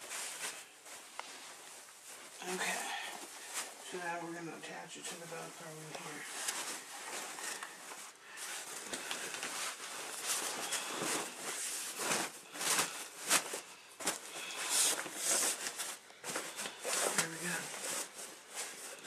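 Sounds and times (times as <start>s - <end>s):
fabric rustling and swishing: 0.0s - 19.0s.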